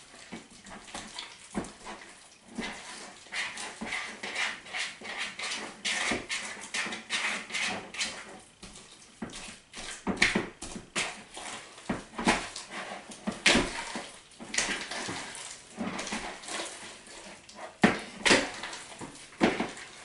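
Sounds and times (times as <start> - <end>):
slime squelching and slapping: 0.2 - 20.0.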